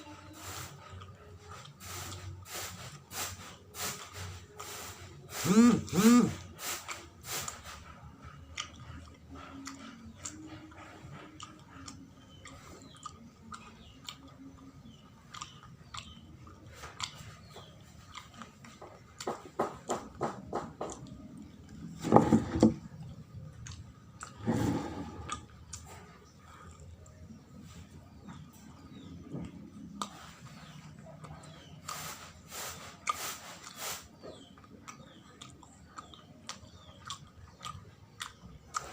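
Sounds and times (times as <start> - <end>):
person chewing sticky sweet: 0.0 - 19.9, 22.8 - 38.9.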